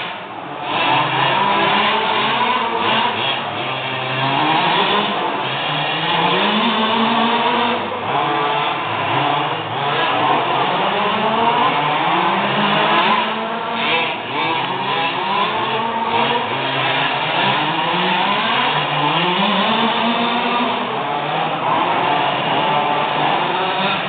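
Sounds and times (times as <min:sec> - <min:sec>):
small two-stroke engines revving: 0:00.0 - 0:24.0.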